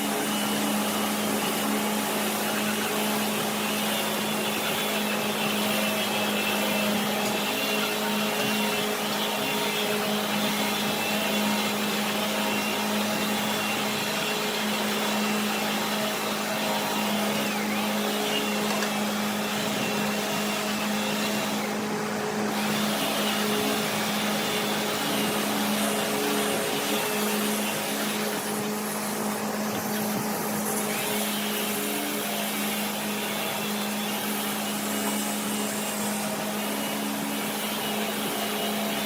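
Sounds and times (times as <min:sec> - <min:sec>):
woodworking machine running: 0:00.0 - 0:39.0.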